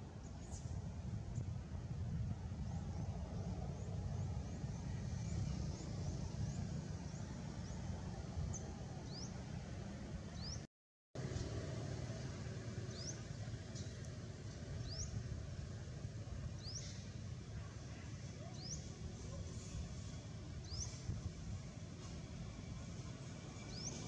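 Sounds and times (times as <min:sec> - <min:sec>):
low outdoor rumble: 0:00.0 - 0:10.6, 0:11.2 - 0:24.0.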